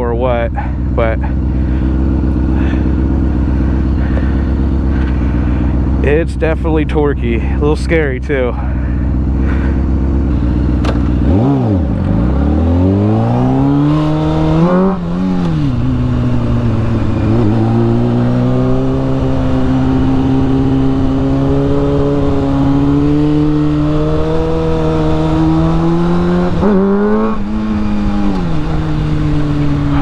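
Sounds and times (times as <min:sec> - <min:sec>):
motorcycle engine revving: 0:00.5 - 0:30.0.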